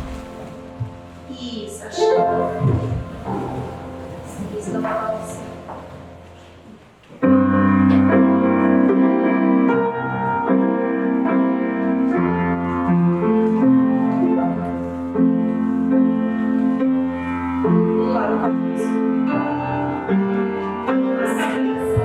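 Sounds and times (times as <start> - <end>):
piano chords over bass line: 0.0 - 6.4, 7.2 - 22.0.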